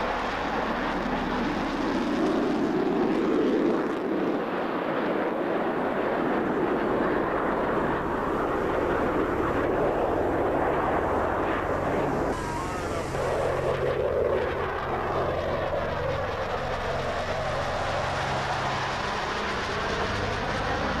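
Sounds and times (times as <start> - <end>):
jets flying over: 0.0 - 21.0.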